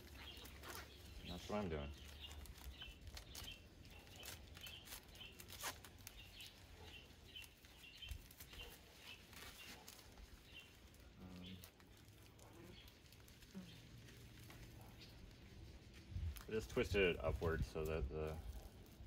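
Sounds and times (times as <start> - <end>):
small bird chirping: 0.0 - 17.7
plastic tape crinkling: 0.0 - 19.0.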